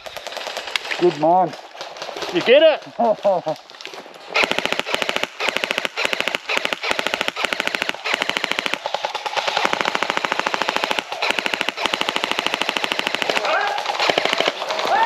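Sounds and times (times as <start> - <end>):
airsoft guns firing bursts: 0.0 - 2.8, 4.3 - 15.0.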